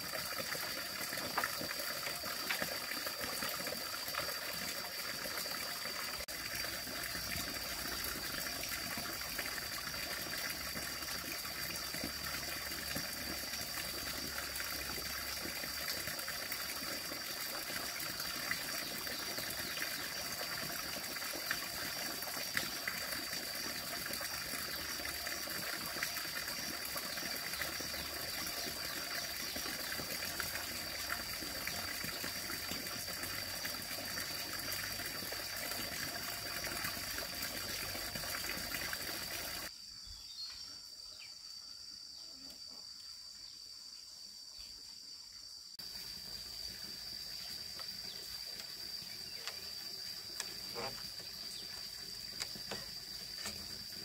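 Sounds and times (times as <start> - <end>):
flowing water rushing: 0.0 - 39.7, 47.6 - 54.0.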